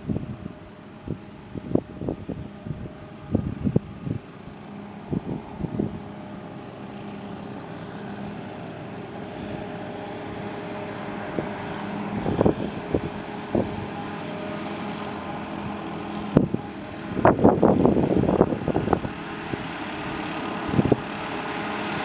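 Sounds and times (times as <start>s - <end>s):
forage harvester drone: 0.0s - 22.0s
tractor engine: 0.0s - 22.0s.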